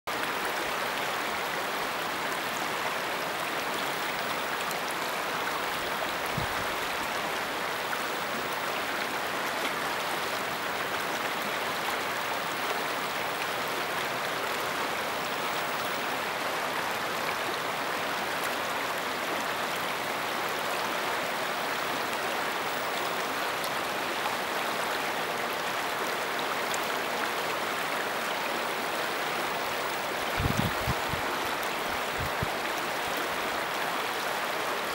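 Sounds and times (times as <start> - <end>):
river rushing over stones: 0.1 - 34.9.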